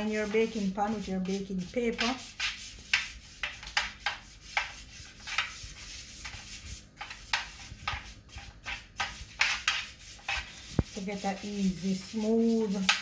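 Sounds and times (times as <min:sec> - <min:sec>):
paper towel rubbing baking pan: 0:00.0 - 0:13.0.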